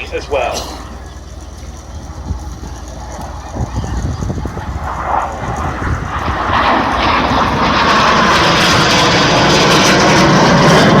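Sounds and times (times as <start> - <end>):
jet flying by: 0.0 - 11.0.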